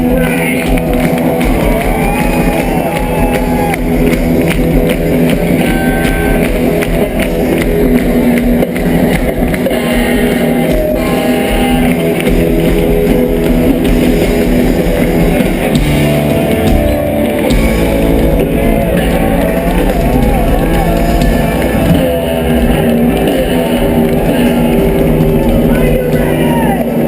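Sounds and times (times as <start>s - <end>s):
drum kit: 0.0s - 27.0s
electric guitar: 0.0s - 27.0s.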